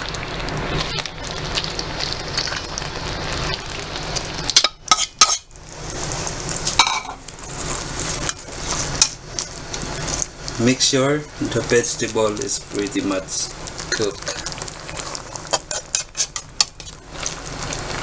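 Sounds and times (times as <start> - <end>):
pot sizzling: 0.0 - 18.0.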